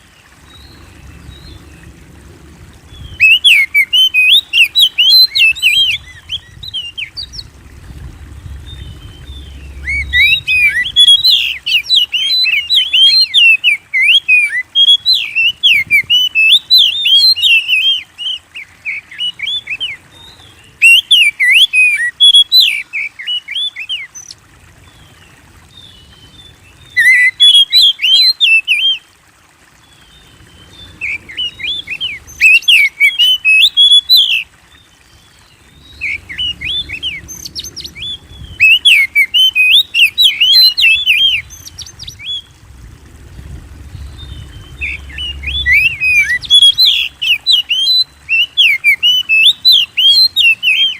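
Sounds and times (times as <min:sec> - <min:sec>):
bird song chirps and whistles: 0:02.9 - 0:24.4, 0:25.7 - 0:29.0, 0:30.0 - 0:42.5, 0:43.9 - 0:50.9.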